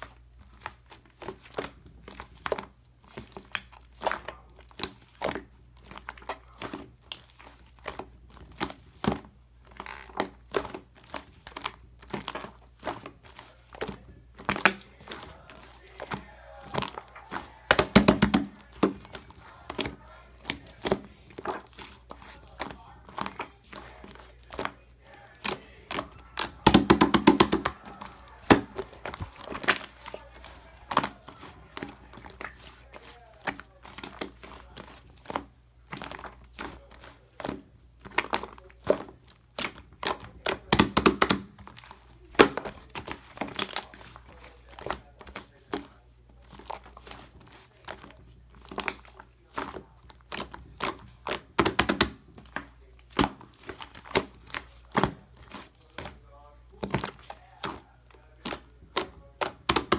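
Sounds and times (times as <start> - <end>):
close-up crackling and crinkling: 0.0 - 59.9.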